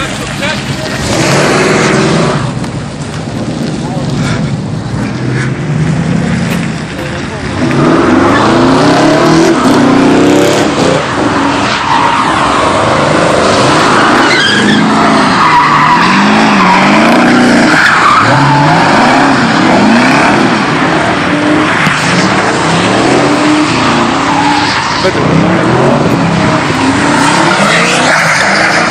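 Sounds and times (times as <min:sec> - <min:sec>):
tyres squealing on asphalt: 0:00.0 - 0:28.9
truck engine revving hard: 0:00.6 - 0:02.6, 0:07.4 - 0:28.9.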